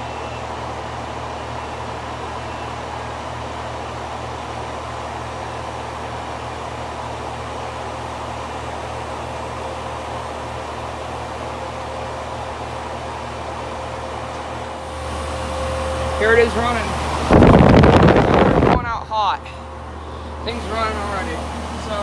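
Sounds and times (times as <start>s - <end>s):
compressor hum: 0.0s - 22.0s
faint steady whine: 0.0s - 22.0s
fan rushing air: 0.0s - 22.0s.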